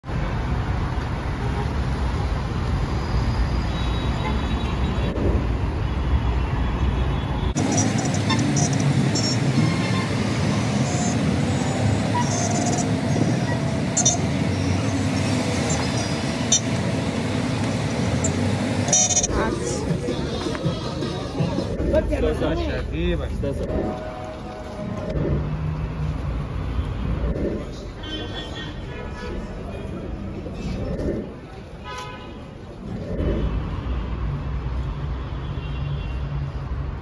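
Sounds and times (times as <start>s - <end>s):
traffic engines and tyres: 0.0s - 37.0s.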